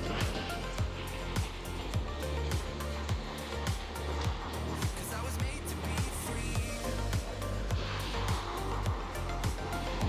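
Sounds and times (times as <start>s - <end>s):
background music with steady beat: 0.0s - 10.0s
kick drum: 0.2s - 9.6s.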